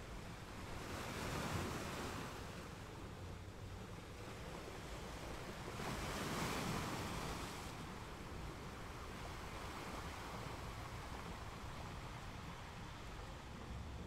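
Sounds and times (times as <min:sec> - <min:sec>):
sea surf: 0:00.0 - 0:14.0.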